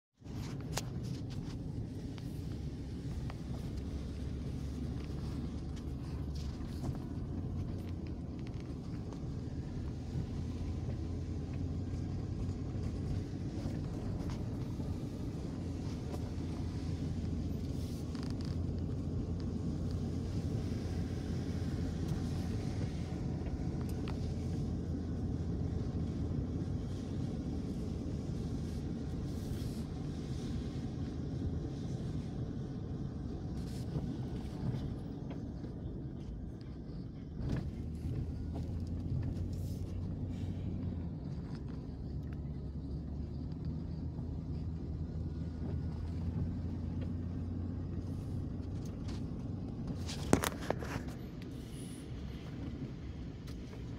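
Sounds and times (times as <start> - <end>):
engine and tyre rumble on gravel: 0.1 - 53.9.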